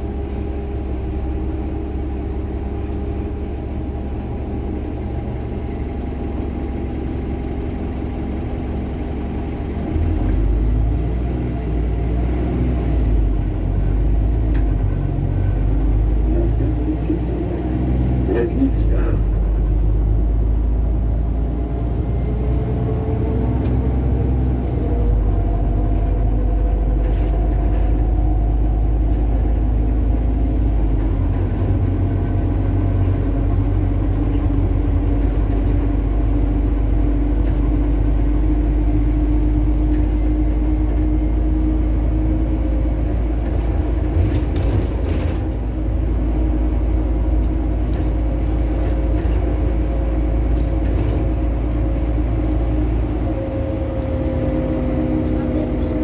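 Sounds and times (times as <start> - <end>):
bus engine rumble with whine: 0.0 - 56.0.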